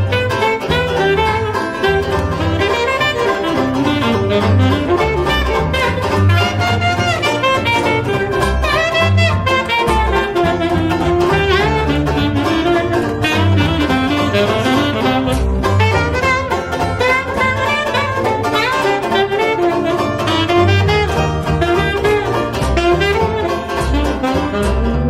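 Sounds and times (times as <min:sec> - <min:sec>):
saxophone solo: 0:00.0 - 0:25.0
strummed banjo: 0:00.0 - 0:25.0
upright bass walking: 0:00.0 - 0:25.0.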